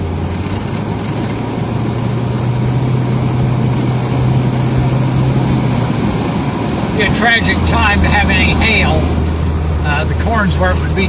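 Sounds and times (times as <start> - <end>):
car engine hum: 0.0 - 11.0
road noise hiss: 0.0 - 11.0.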